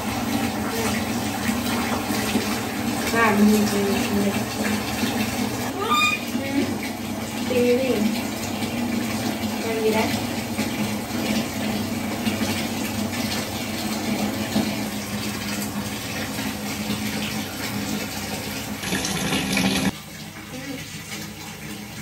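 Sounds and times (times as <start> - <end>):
water pouring into plastic basin: 0.0 - 22.0.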